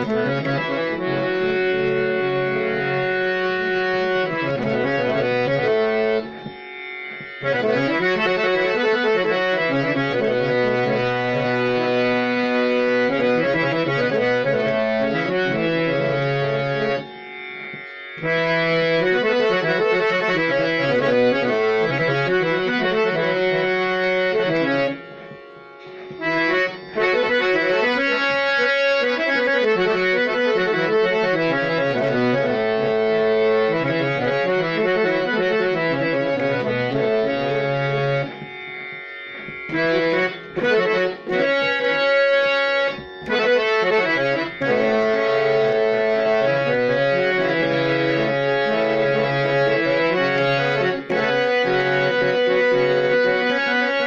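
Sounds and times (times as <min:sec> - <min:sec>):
harmonium playing: 0:00.0 - 0:54.0.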